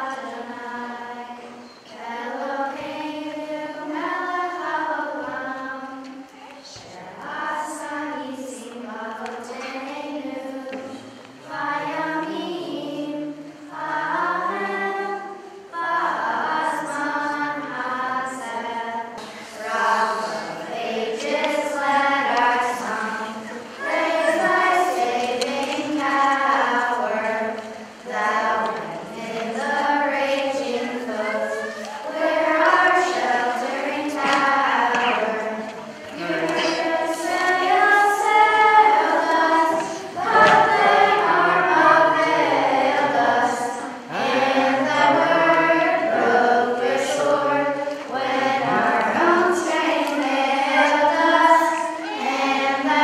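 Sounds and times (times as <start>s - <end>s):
children singing in unison: 0.0s - 53.0s.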